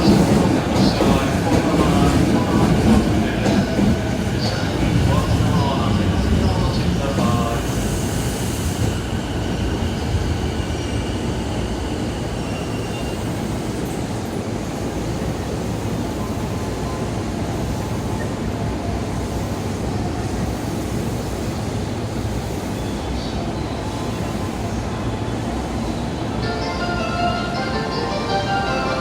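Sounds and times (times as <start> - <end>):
electric train rumble and hum: 0.0 - 29.0.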